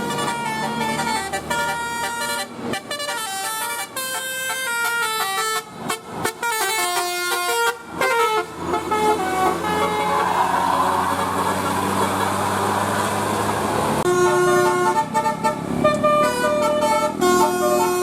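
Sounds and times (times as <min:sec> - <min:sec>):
multi-trumpet air horn melody: 0:00.0 - 0:10.8, 0:14.0 - 0:18.0.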